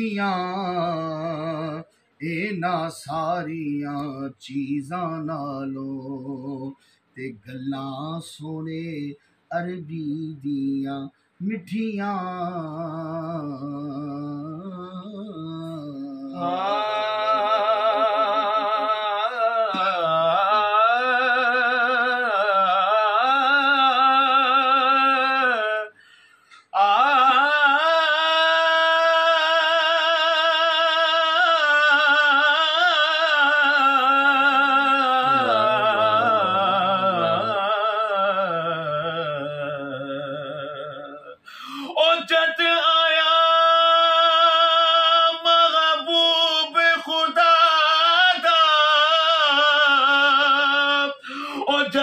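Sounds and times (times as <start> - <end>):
person singing with vibrato: 0.0 - 52.0.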